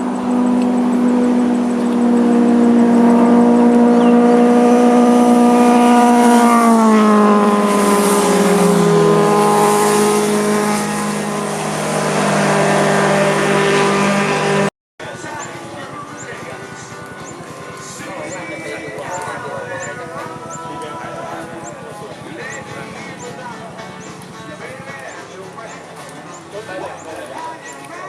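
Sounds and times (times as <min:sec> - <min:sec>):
motorcycle passing: 0:00.0 - 0:28.0.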